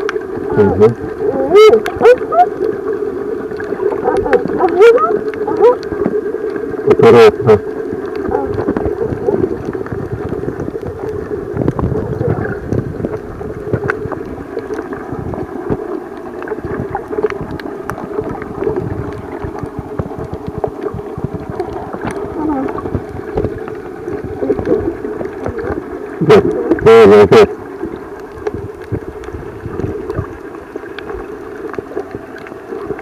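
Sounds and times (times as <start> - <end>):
small clicks and crackles: 0.0 - 33.0
underwater bubbling: 0.0 - 33.0
underwater water wash: 0.0 - 33.0.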